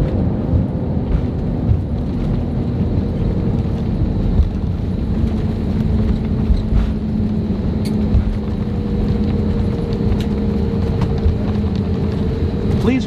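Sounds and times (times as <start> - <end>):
aircraft cabin rumble: 0.0 - 13.0
constant hum: 0.0 - 13.0.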